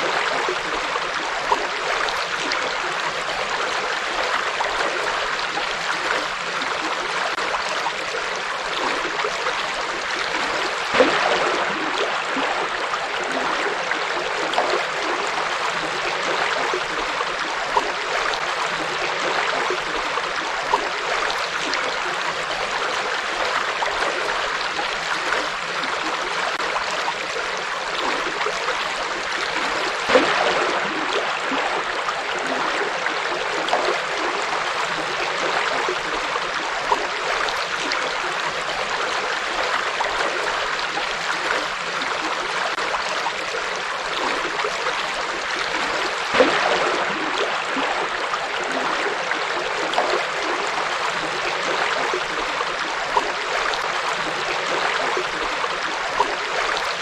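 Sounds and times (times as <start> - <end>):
water splashes and gurgles: 0.0 - 57.0.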